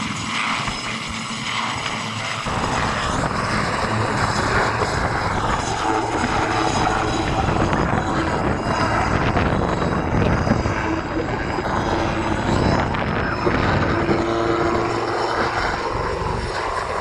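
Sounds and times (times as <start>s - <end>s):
helicopter engines running: 0.0s - 17.0s
helicopter rotor beating: 0.0s - 17.0s.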